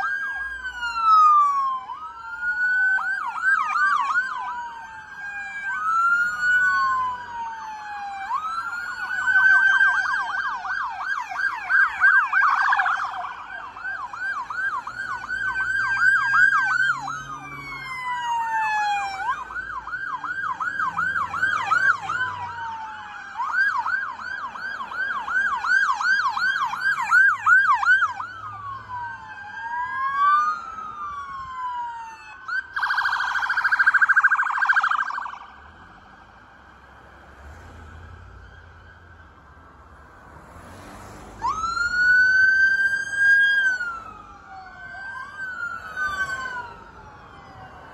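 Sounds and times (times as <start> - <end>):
engine and road noise: 0.0 - 47.9
police sirens yelping and wailing: 0.0 - 47.9.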